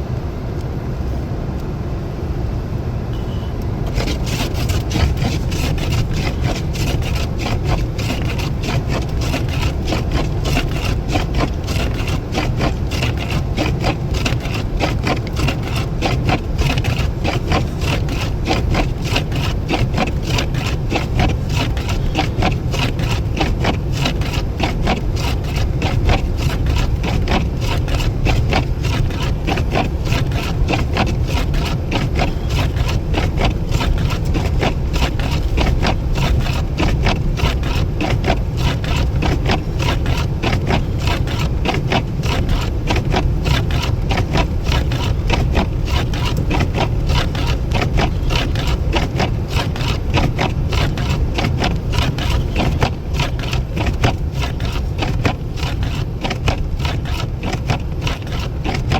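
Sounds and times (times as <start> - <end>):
rapid even ticking: 3.9 - 58.9.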